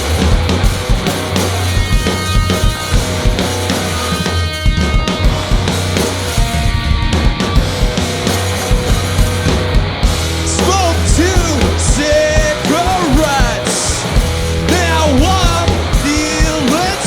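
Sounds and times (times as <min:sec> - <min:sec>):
drum hits: 0:00.0 - 0:17.0
low bass notes: 0:00.0 - 0:17.0.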